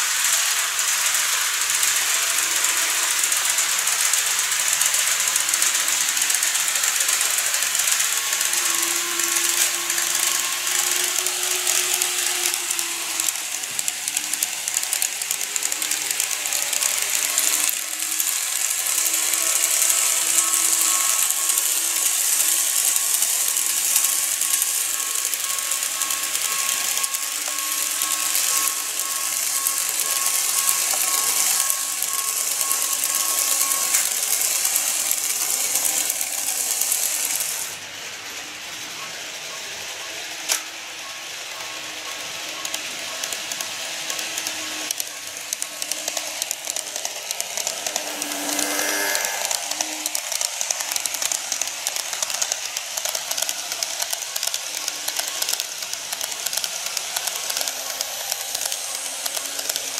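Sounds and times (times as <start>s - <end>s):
faint motor whine: 0.0s - 59.9s
model train wheels clicking: 0.0s - 59.9s.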